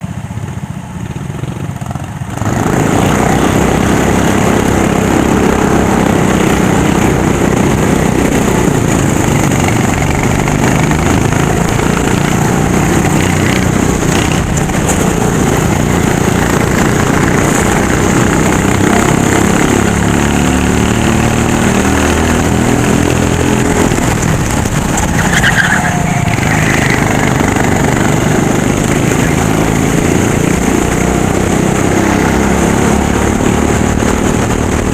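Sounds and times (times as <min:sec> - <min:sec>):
kart engine at full throttle: 0:00.0 - 0:34.9.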